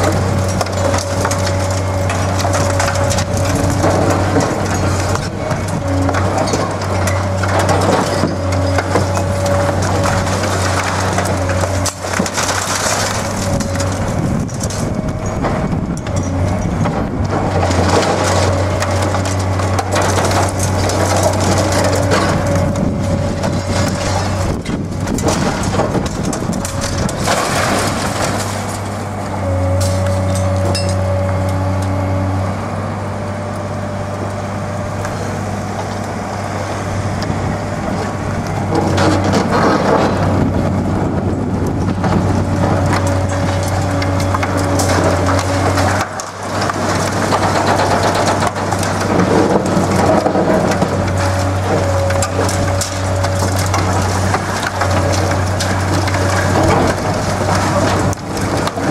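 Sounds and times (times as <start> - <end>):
falling debris: 0.0 - 31.1, 37.9 - 58.9
hydraulic shears crushing concrete: 0.0 - 31.9, 37.3 - 58.9
concrete crunching and cracking: 0.0 - 32.3, 33.9 - 58.9
excavator diesel engine running: 0.0 - 58.9.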